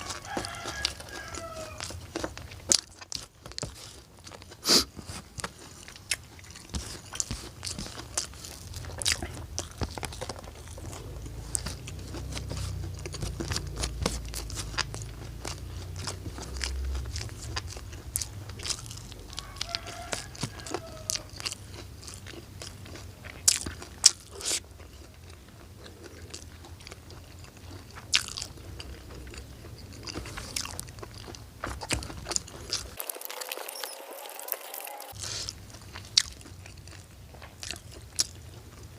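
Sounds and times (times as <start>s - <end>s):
person crunching and chewing: 0.0s - 38.9s.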